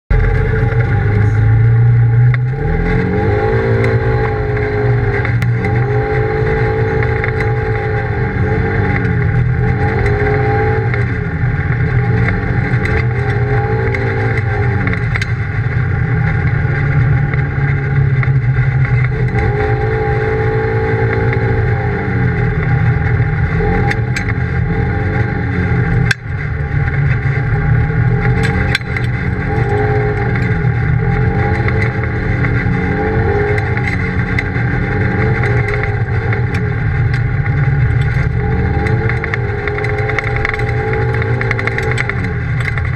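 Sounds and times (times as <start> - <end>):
engine revving: 0.1 - 42.9.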